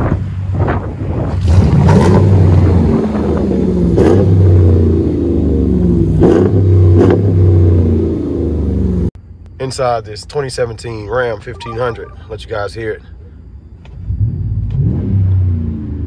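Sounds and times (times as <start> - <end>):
car engine revving over idle: 0.0 - 16.0.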